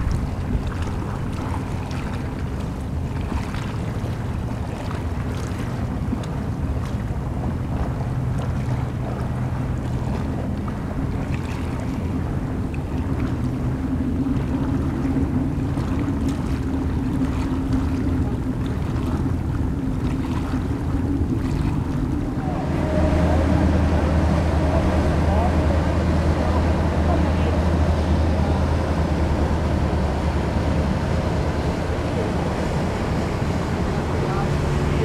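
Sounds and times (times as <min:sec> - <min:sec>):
boat engine hum: 0:00.0 - 0:35.0
small waves lapping: 0:00.0 - 0:35.0
waterbus engine drone: 0:00.0 - 0:35.0
wind on microphone: 0:00.0 - 0:35.0.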